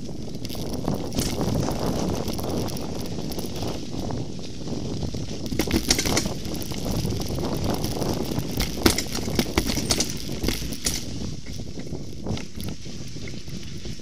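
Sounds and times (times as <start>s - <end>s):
bike rattles and knocks: 0.0s - 14.0s
bike tyres rumbling on dirt: 0.0s - 14.0s.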